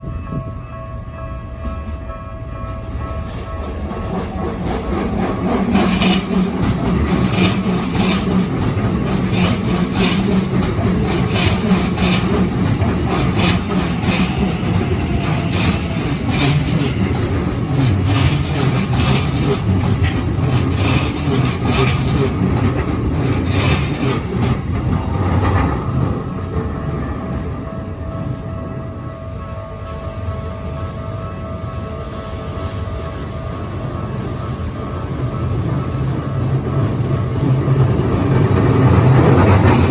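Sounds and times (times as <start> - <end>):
electric train rumbling: 0.0 - 39.9
train wheels clacking: 2.7 - 29.2, 33.8 - 39.9.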